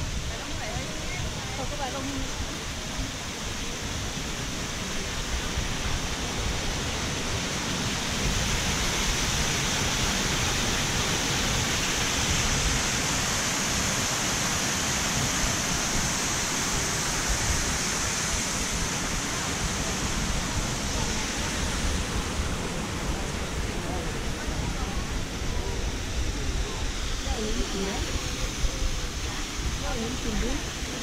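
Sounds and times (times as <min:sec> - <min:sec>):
waterfall splashing into pool: 0:00.1 - 0:31.0.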